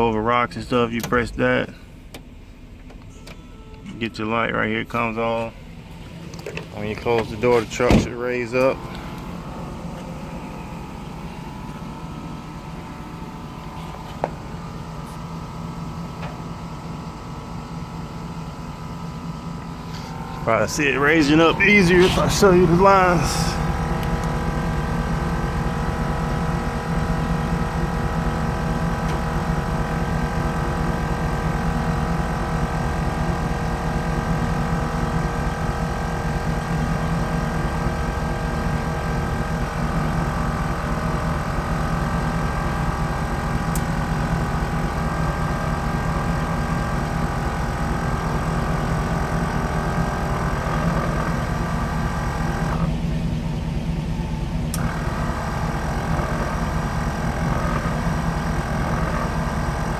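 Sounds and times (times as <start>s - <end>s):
air compressor humming: 0.0s - 59.9s.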